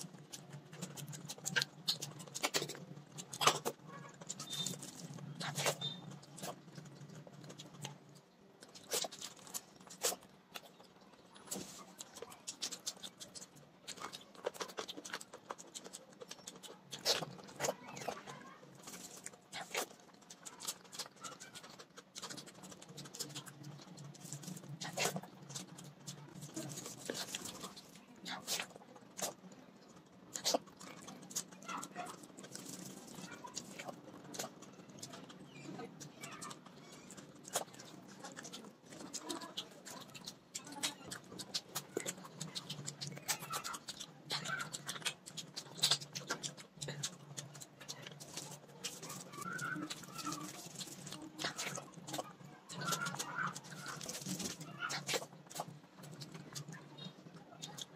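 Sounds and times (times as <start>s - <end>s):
wet chewing and lip-smacking: 0.0s - 57.9s.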